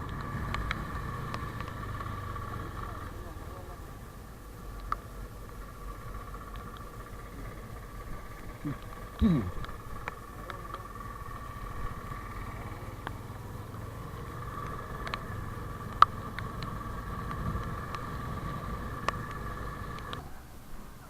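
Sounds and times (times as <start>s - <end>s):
sharp clicks: 0.0s - 3.1s, 4.7s - 20.2s
engine running with high whine: 0.0s - 21.0s.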